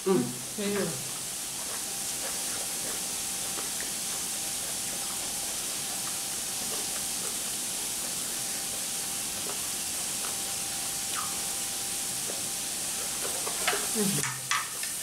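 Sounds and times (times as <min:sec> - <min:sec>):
squid sizzling on a grill: 0:00.1 - 0:15.0.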